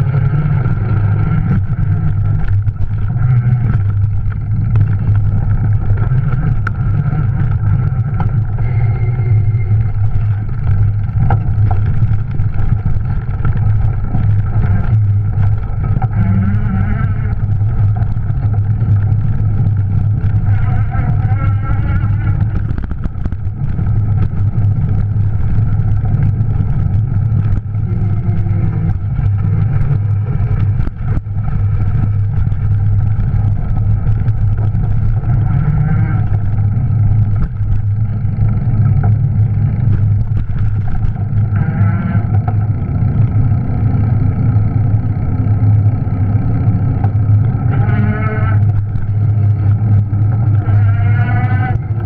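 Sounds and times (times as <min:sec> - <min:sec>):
riding rumble: 0:00.0 - 0:52.0.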